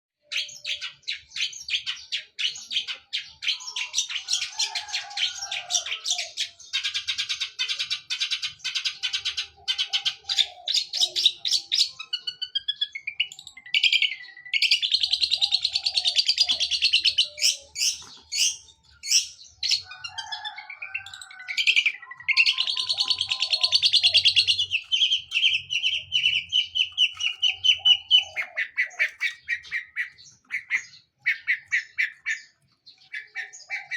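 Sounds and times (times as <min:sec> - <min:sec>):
bird chattering song: 0:00.2 - 0:33.9
bird trill: 0:00.2 - 0:33.9.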